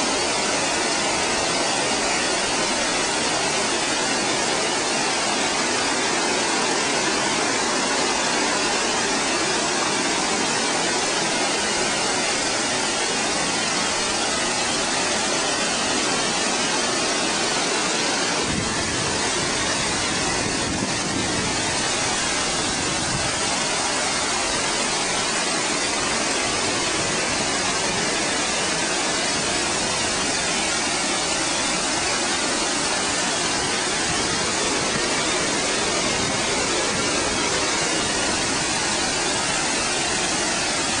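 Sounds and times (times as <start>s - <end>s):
low water rumble: 0.0s - 41.0s
water rushing over spillway: 0.0s - 41.0s.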